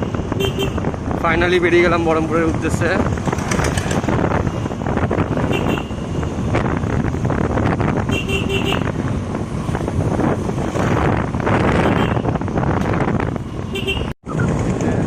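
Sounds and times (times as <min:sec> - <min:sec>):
motorcycle engine riding: 0:00.0 - 0:15.0
wind noise: 0:00.0 - 0:15.0.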